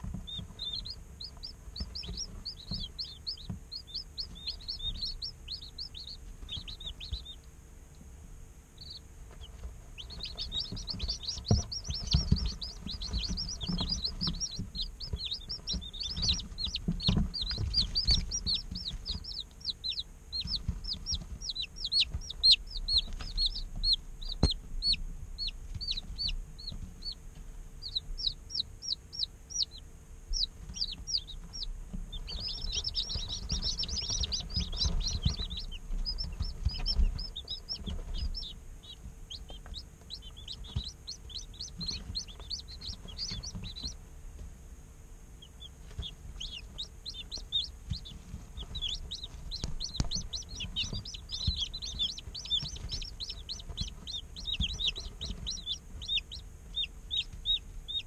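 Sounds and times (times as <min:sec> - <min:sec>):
chicks peeping: 0:00.0 - 0:58.0
faint steady hum: 0:00.0 - 0:58.0.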